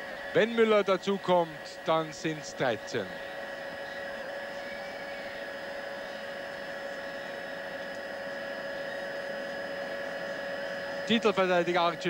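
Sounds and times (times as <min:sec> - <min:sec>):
steady whining tones: 0:00.0 - 0:12.0.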